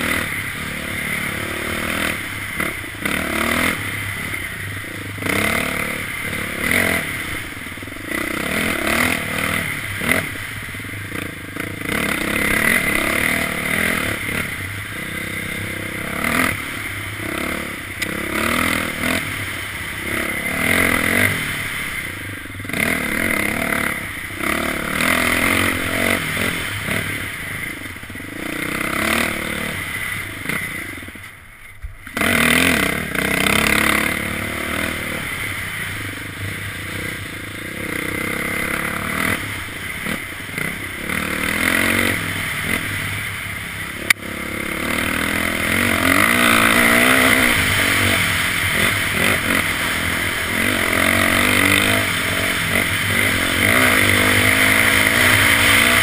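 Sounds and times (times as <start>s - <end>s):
dirt bike engine revving: 0.0s - 31.3s, 32.0s - 56.0s.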